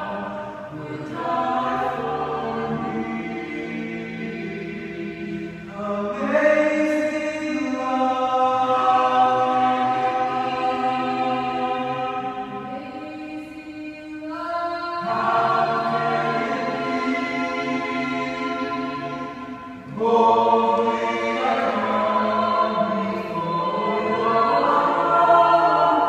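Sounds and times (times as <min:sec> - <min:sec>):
a cappella group singing a hymn: 0:00.0 - 0:26.0.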